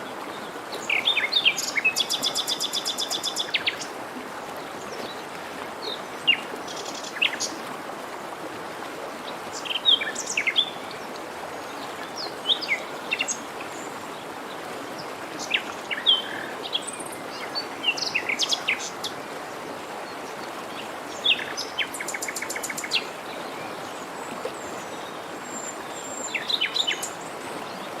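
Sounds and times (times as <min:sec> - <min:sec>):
forest stream rushing: 0:00.0 - 0:28.0.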